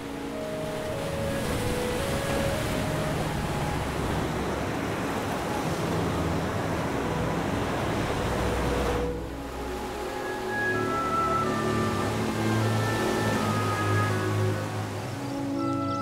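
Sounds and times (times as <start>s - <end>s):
waves crashing on rocks: 0.0s - 16.0s.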